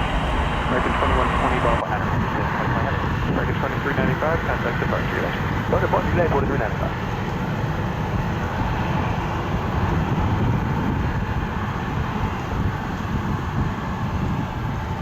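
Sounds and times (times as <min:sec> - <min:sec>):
jet engines rumbling: 0:00.0 - 0:12.4.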